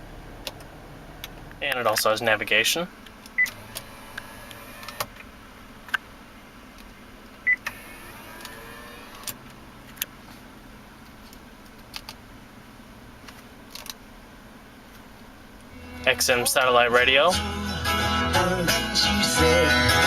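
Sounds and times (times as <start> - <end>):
faint cabin hum: 0.0 - 17.7.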